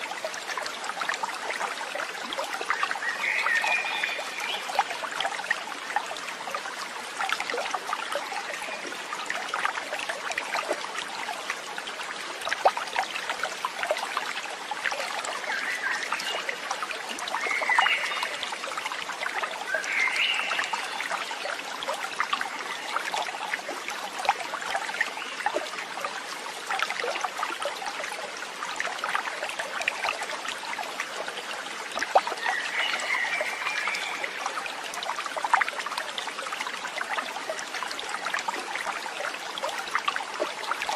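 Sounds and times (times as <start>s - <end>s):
water babbling in a stream: 0.0s - 40.9s.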